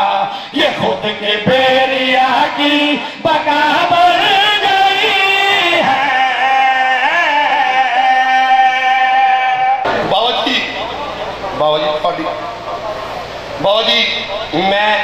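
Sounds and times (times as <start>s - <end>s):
men chanting through microphones: 0.0s - 15.0s.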